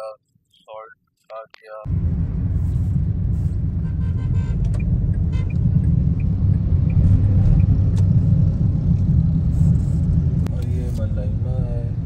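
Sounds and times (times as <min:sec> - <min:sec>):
car and road rumble: 0:01.8 - 0:12.0.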